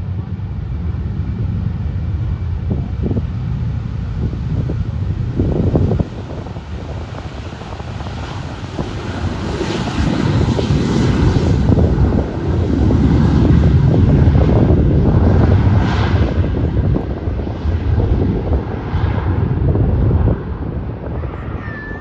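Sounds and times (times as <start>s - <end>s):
airplane engines rumbling: 0.0s - 22.0s.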